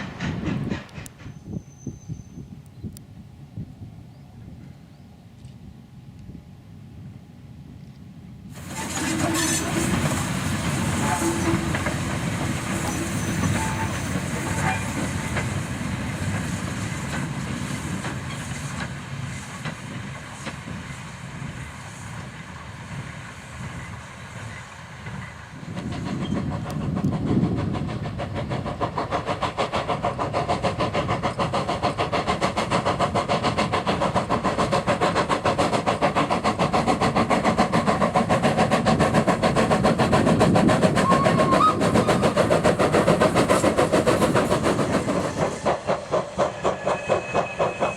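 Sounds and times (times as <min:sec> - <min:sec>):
train wheels clattering: 0:00.0 - 0:02.4, 0:08.6 - 0:47.9
steam locomotive exhaust beats: 0:00.0 - 0:04.9, 0:08.4 - 0:47.9
steam hissing: 0:08.5 - 0:47.9.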